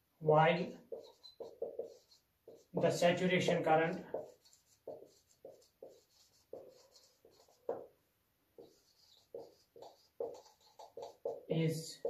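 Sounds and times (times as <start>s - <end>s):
marker writing on whiteboard: 0.6s - 8.0s, 8.6s - 12.0s.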